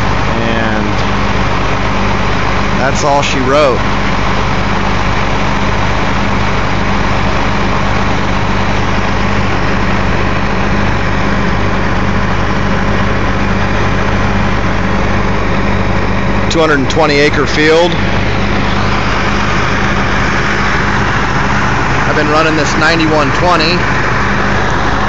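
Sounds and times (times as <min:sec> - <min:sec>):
combine harvester droning: 0:00.0 - 0:25.0.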